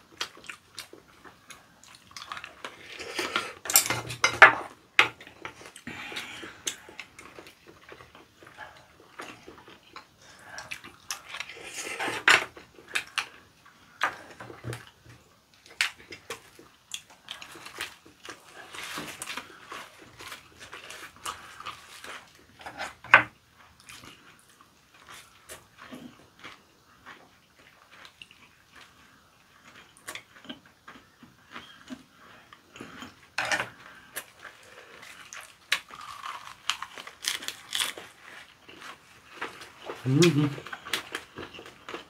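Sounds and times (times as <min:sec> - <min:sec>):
people chewing wet food: 0:00.0 - 0:42.0.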